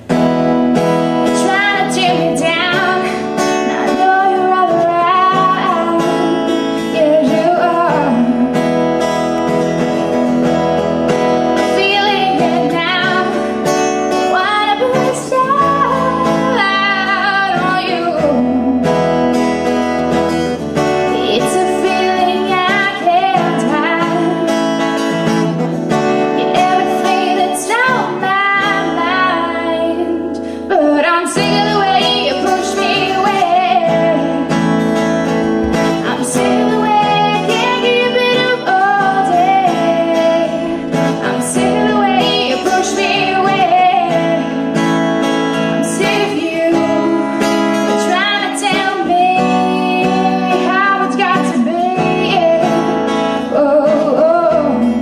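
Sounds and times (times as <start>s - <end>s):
acoustic guitar: 0.0s - 55.0s
woman singing: 0.0s - 55.0s.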